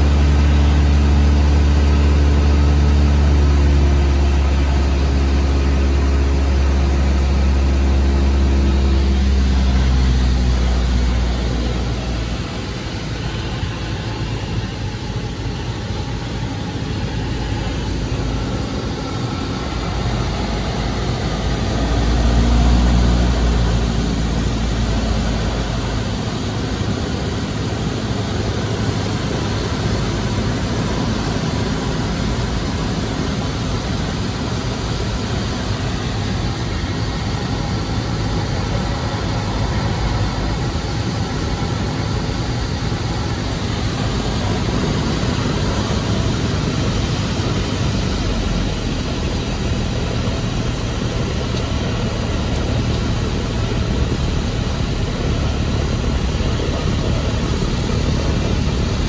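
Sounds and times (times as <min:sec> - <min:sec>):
air noise in cabin: 0:00.0 - 0:59.0
light airplane engine and propeller: 0:00.0 - 0:59.0.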